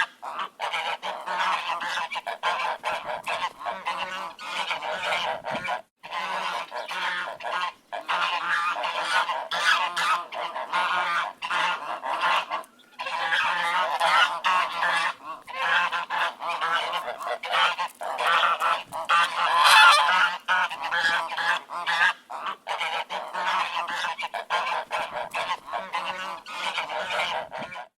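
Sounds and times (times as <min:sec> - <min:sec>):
ducks quacking: 0:00.0 - 0:28.0.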